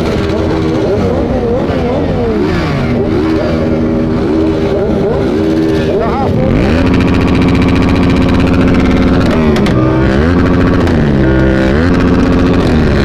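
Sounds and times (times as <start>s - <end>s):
low engine rumble: 0.0s - 13.0s
motorcycle engines revving: 0.0s - 13.0s.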